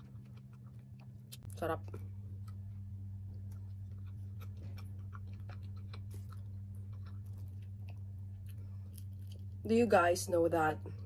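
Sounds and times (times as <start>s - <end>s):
chewing: 0.0s - 9.6s
fingers picking through food: 0.0s - 9.6s
steady low hum: 0.0s - 11.0s.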